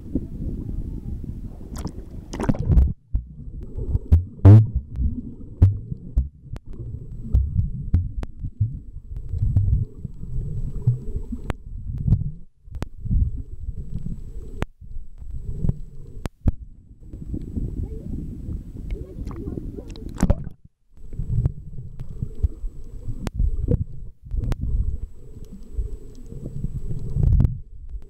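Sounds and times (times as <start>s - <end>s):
muffled underwater sloshing: 0.0s - 28.0s.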